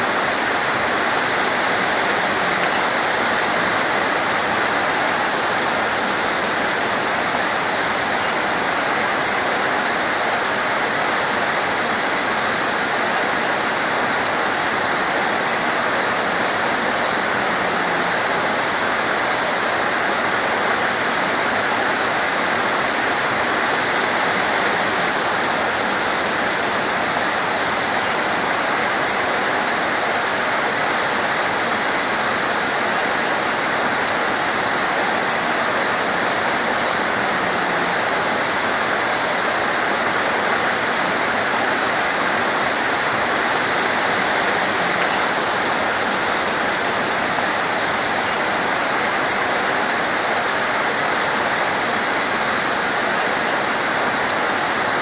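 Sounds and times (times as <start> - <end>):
torrential rain pouring: 0.0 - 55.0.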